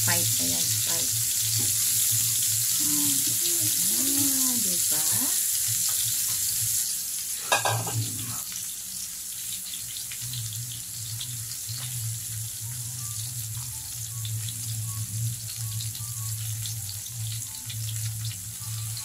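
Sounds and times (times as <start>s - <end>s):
meat sizzling in a grill pan: 0.0s - 19.0s.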